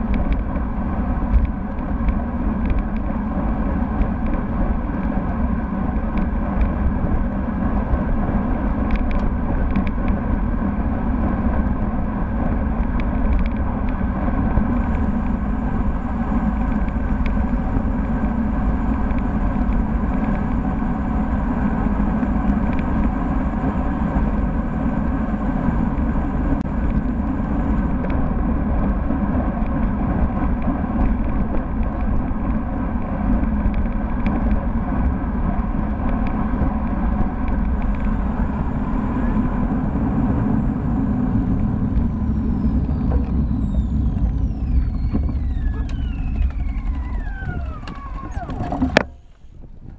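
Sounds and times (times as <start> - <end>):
tyre-on-road rumble: 0.0 - 49.9.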